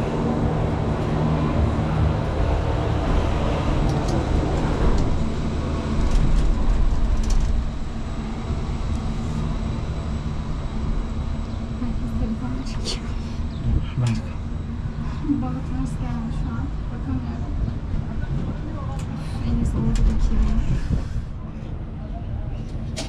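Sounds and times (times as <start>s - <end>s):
motor vehicle rumble: 0.0s - 23.0s.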